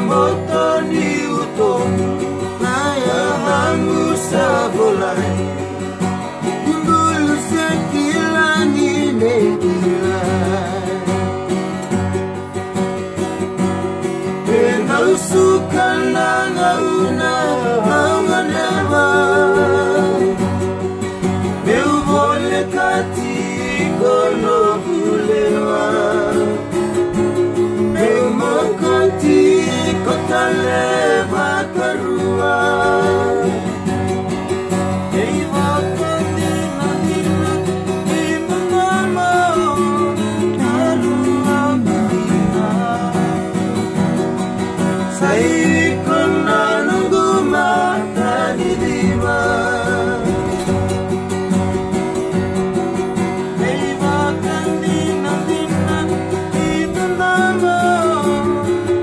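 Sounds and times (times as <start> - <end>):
young men singing together: 0.0 - 11.1, 14.2 - 34.1, 35.1 - 44.0, 45.0 - 50.8, 53.2 - 59.0
acoustic guitar: 0.0 - 59.0.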